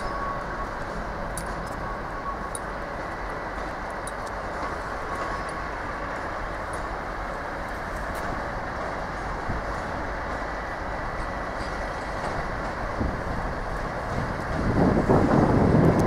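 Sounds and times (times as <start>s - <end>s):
train carriage running noise: 0.0s - 16.0s.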